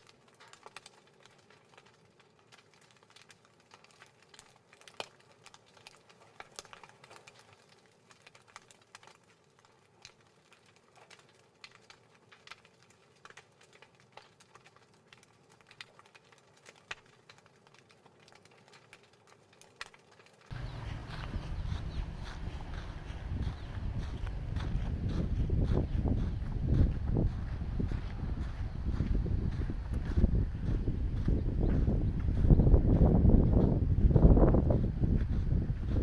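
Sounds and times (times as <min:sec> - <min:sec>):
faint irregular clicking and crackling: 0:00.0 - 0:33.7.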